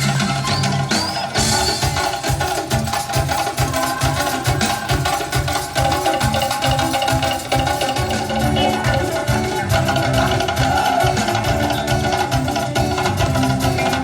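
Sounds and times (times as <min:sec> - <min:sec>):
drums and hand percussion: 0:00.0 - 0:14.0.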